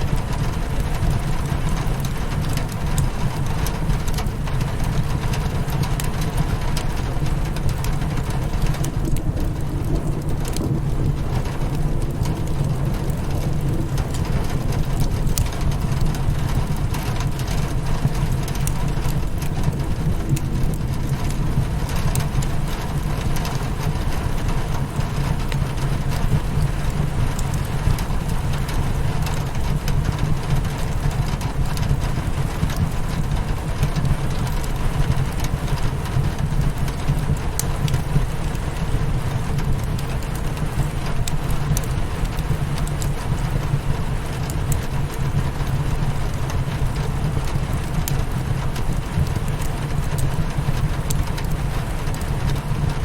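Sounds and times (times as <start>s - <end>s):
rain on a windowpane: 0.0s - 53.0s
wood fire crackling: 0.0s - 53.0s.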